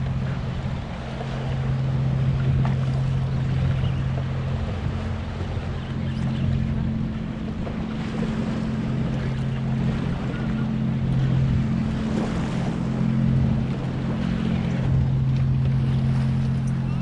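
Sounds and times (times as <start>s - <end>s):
boat motor idling: 0.0s - 17.0s
water lapping: 0.0s - 17.0s
wind buffeting microphone: 0.0s - 17.0s.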